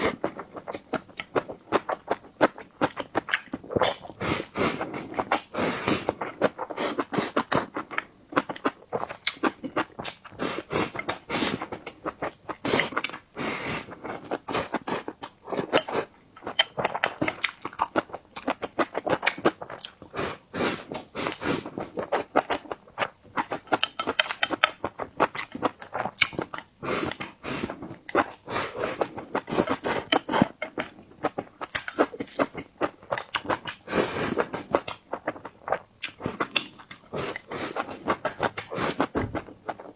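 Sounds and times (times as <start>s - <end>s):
chewing and mouth smacks: 6.2s - 13.3s, 14.0s - 20.2s, 20.9s - 39.9s.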